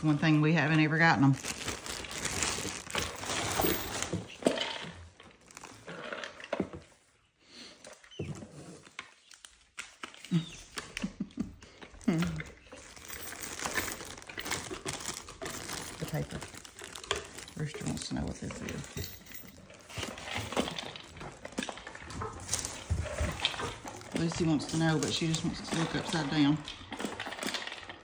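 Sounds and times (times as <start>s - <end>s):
plastic wrapping crinkling: 0.2s - 6.0s, 9.0s - 28.0s.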